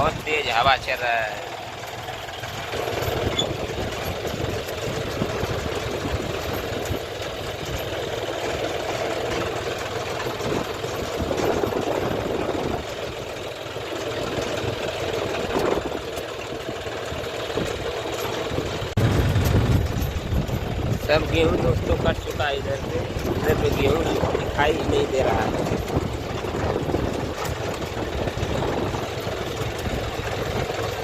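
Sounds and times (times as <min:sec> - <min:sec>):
wind buffeting microphone: 0:00.0 - 0:01.2, 0:02.2 - 0:31.0
engine running with rapid knocking: 0:00.0 - 0:31.0.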